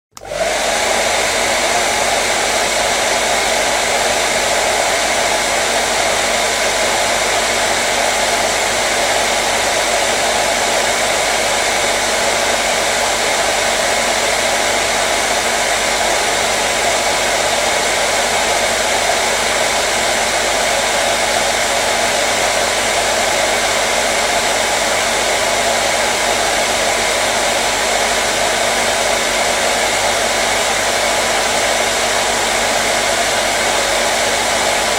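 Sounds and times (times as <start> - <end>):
hair dryer running: 0.1 - 34.9.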